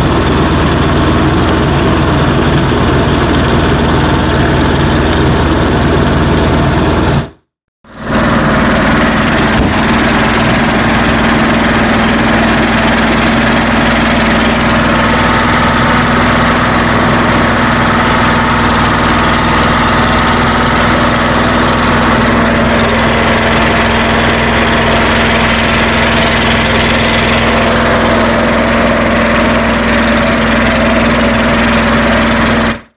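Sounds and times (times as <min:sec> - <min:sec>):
tractor engine running steadily: 0:00.0 - 0:32.9.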